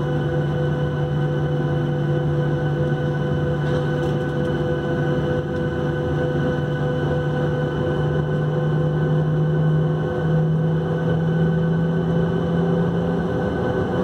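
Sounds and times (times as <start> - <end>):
aircraft cabin machine drone: 0.0 - 14.0.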